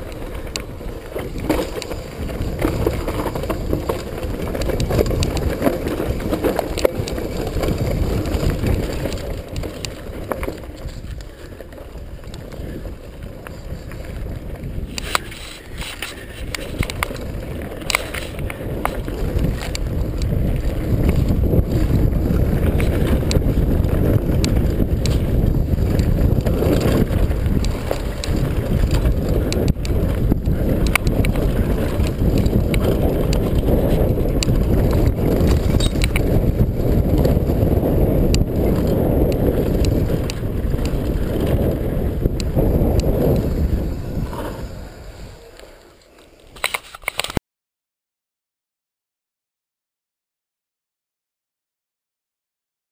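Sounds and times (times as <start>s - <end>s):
bike rattling and knocking: 0.0s - 44.8s
bike tyres rumbling on rocky trail: 0.0s - 46.8s
wind on microphone: 0.0s - 47.4s.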